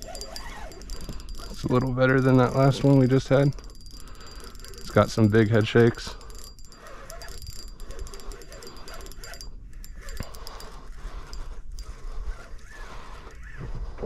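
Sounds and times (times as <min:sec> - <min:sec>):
fishing reel ticking: 0:00.0 - 0:13.6.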